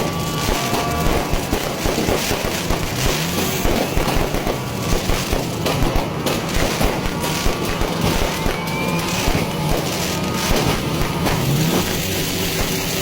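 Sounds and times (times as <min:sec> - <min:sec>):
fireworks banging and crackling: 0:00.0 - 0:13.0
rising firework whistle: 0:00.0 - 0:13.0.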